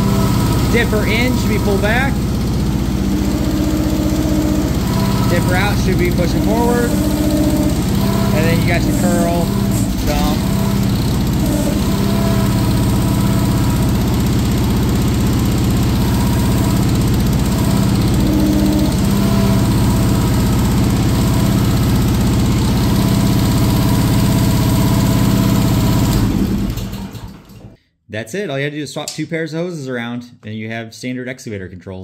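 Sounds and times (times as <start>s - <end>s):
mini excavator engine running: 0.0s - 27.8s.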